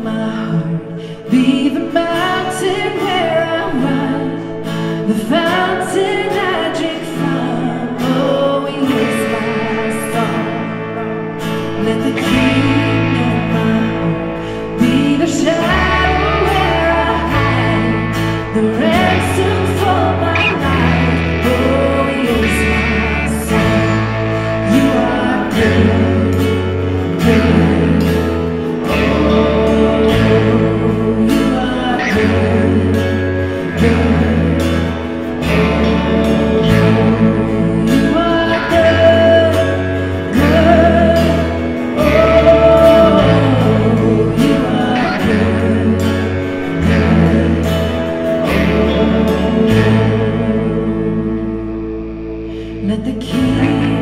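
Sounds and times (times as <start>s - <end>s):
acoustic guitar: 0.0s - 54.0s
piano: 0.0s - 54.0s
woman singing: 0.0s - 54.0s
low bass notes: 7.1s - 54.0s.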